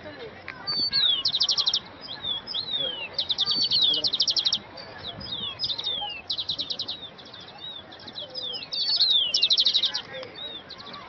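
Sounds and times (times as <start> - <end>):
bird trills: 0.6 - 11.0.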